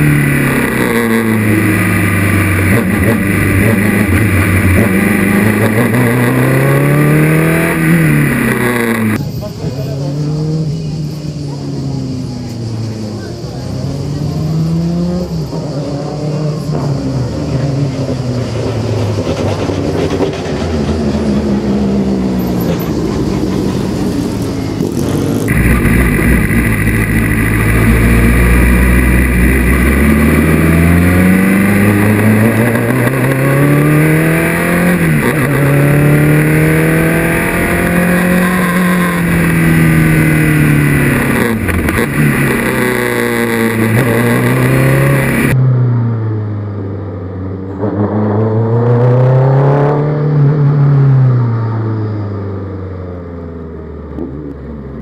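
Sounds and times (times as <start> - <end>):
racing car engine at high revs: 0.0 - 9.2, 10.0 - 55.0.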